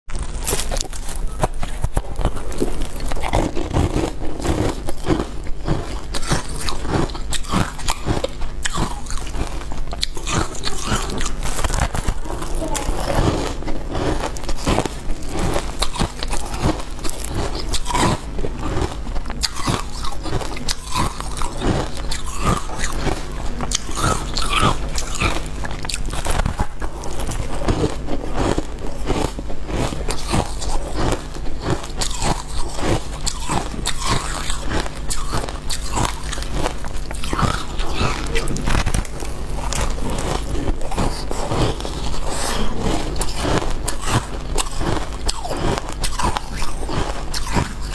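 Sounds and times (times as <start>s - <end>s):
chewing ice crunches: 0.1s - 47.9s
steady low hum: 0.1s - 47.9s.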